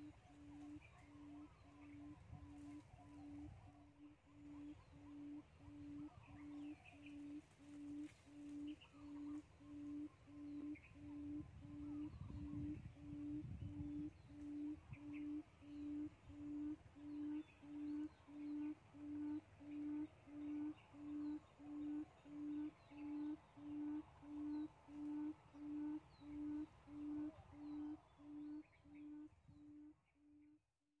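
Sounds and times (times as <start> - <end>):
low repeated hooting: 0.0 - 30.6
faint bird chirps: 0.0 - 30.8.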